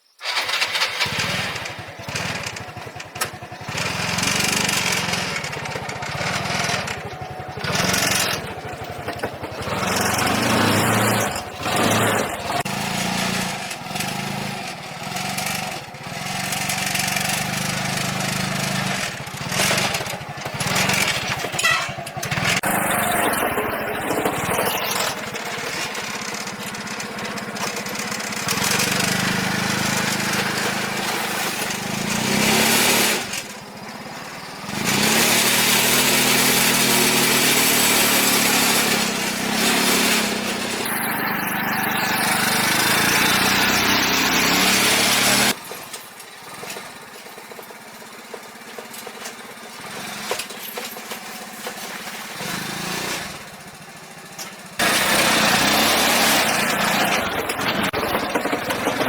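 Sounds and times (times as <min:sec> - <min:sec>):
small petrol engine revving: 0:00.0 - 0:59.0.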